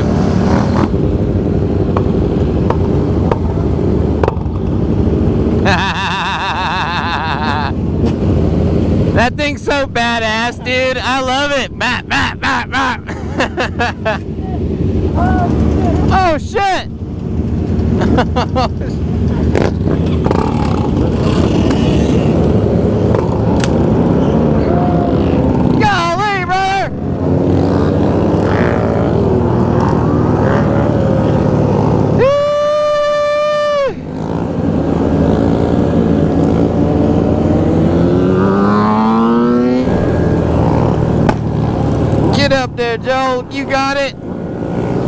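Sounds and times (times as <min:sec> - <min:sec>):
motorcycle engine: 0:00.0 - 0:45.0.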